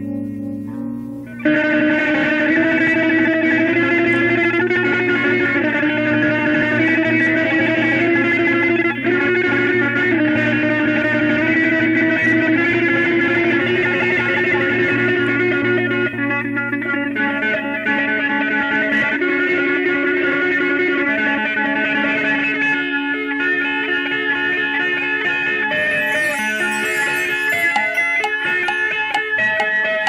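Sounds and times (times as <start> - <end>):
guitar-led music: 0.0 - 30.0.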